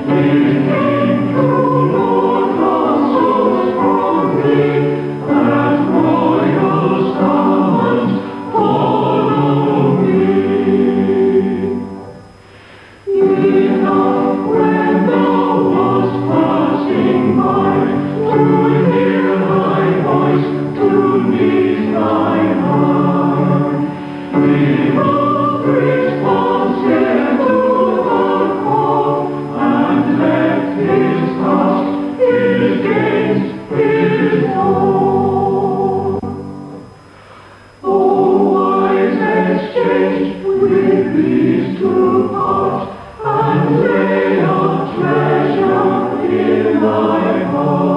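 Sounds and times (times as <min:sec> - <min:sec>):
choir singing a hymn: 0:00.0 - 0:47.9.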